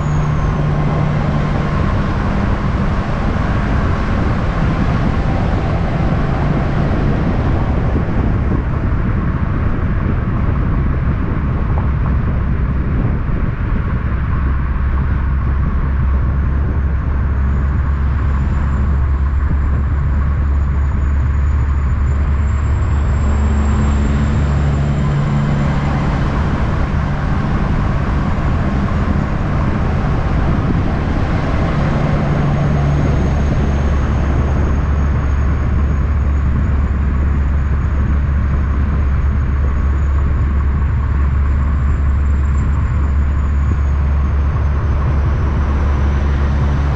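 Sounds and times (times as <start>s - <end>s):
road noise: 0.0s - 46.9s
vehicle engine rumbling: 0.0s - 46.9s.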